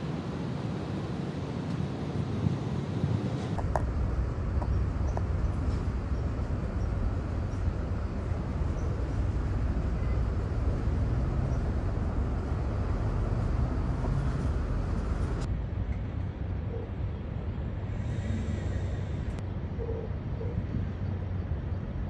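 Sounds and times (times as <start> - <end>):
heavy vehicle traffic rumble: 0.0 - 22.0.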